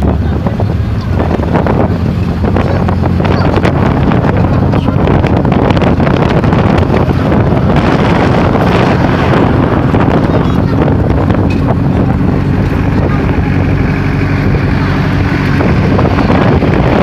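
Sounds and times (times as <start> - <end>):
vehicle body rattling: 0.0 - 17.0
vehicle running noise: 0.0 - 17.0
wind buffeting microphone: 0.0 - 17.0.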